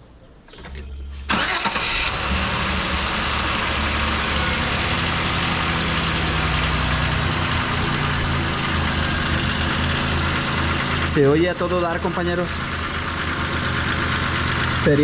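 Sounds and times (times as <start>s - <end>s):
car engine idling: 0.6s - 15.0s.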